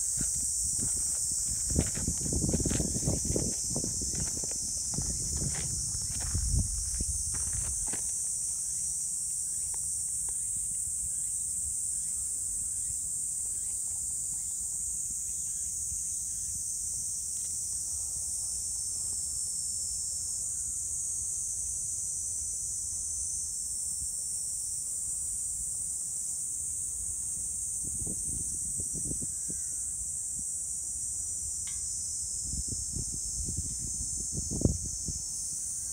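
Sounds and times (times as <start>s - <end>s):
shrill insect chorus: 0.0s - 35.9s.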